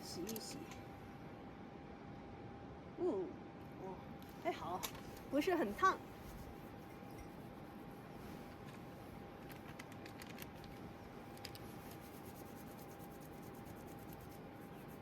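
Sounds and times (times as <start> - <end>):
faint constant tone: 0.0 - 15.0.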